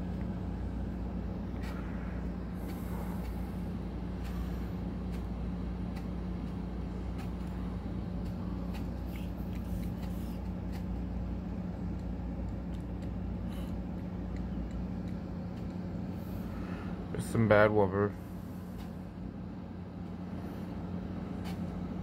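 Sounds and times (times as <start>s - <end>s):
ceiling fan humming: 0.0s - 22.0s.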